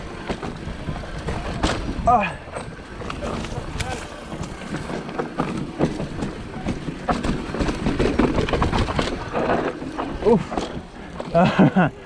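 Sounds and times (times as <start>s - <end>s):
bike clacking over bumps: 0.0s - 12.0s
constant rushing noise: 0.0s - 12.0s
mountain bike rattling: 0.0s - 12.0s.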